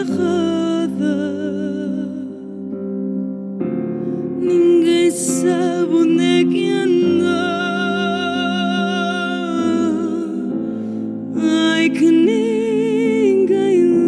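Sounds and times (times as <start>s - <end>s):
woman singing a slow ballad: 0.0s - 3.0s, 4.2s - 14.0s.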